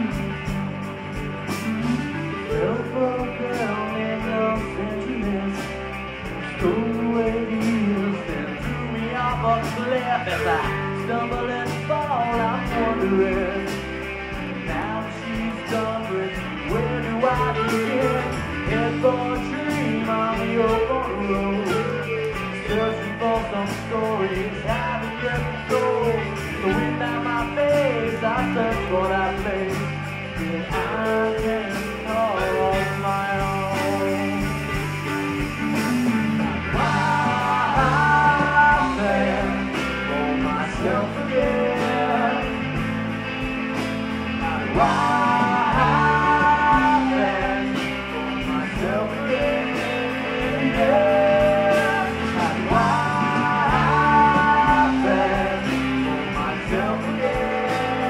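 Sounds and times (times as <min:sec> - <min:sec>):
bass: 0:00.0 - 0:58.0
drums: 0:00.0 - 0:58.0
electric guitars: 0:00.0 - 0:58.0
vocals: 0:00.0 - 0:58.0.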